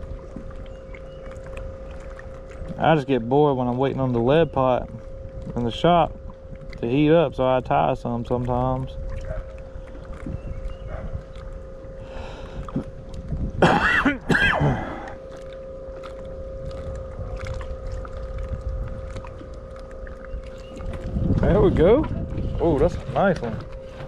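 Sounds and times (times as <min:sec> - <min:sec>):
water lapping against boat: 0:00.0 - 0:24.0
wind: 0:00.0 - 0:24.0.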